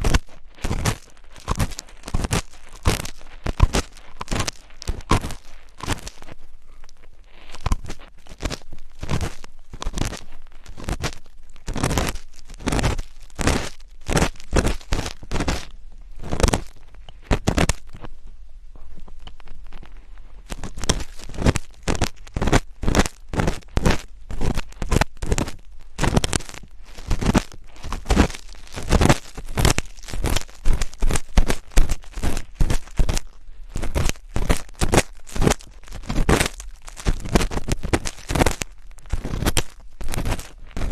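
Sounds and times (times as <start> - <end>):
scratching on microphone: 0.0 - 18.2, 18.8 - 40.9.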